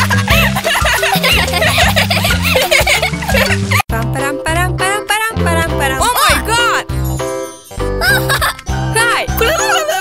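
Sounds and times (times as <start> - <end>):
playful cartoon music: 0.0 - 10.0.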